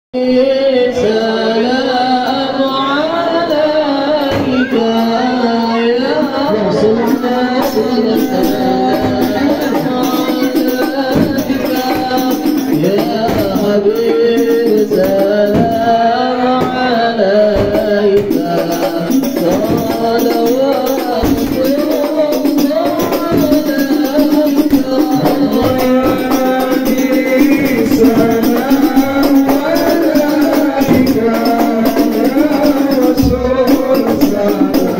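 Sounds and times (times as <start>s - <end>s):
person singing into a microphone: 0.1s - 34.9s
voices singing along: 0.1s - 34.9s
hand drum and rattle percussion: 4.1s - 5.4s, 6.2s - 34.9s.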